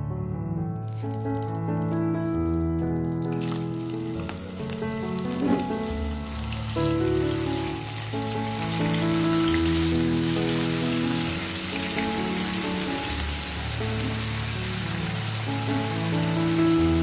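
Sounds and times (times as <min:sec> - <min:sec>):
background music with held notes: 0:00.0 - 0:17.0
paste sizzling in hot oil: 0:00.9 - 0:17.0.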